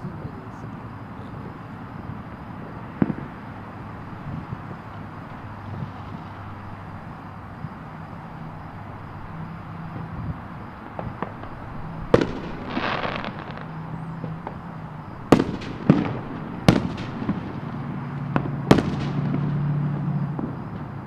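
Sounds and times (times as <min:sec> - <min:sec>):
fireworks crackling: 0:00.0 - 0:09.3, 0:09.9 - 0:21.0
distant fireworks bursting: 0:00.0 - 0:21.0.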